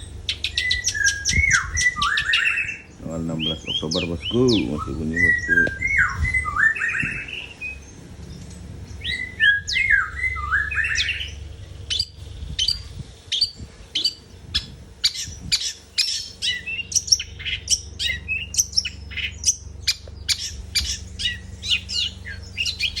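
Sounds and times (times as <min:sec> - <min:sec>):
shrike singing: 0:00.0 - 0:23.0
steady low hum: 0:00.0 - 0:23.0.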